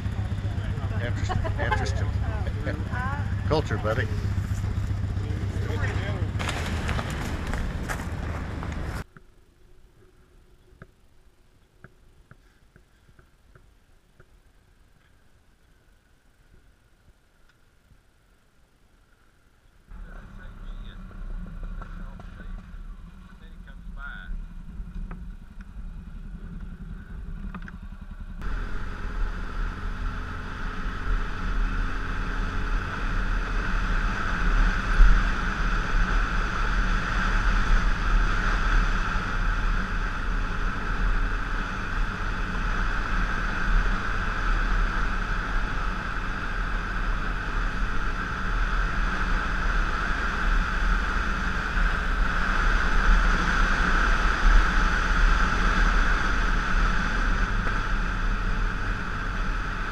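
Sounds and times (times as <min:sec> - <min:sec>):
motorcycle engine running: 0:00.0 - 0:09.3, 0:19.9 - 0:59.9.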